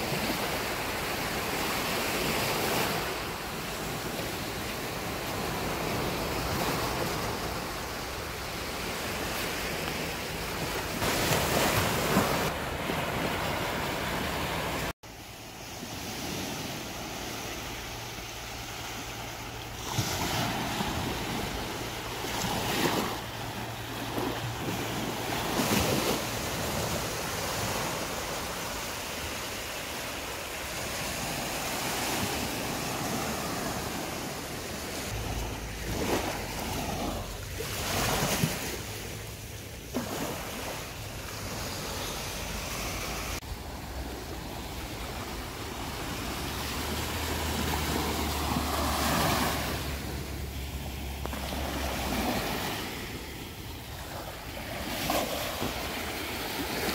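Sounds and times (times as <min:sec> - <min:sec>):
small waves breaking on sand: 0:00.0 - 0:56.9.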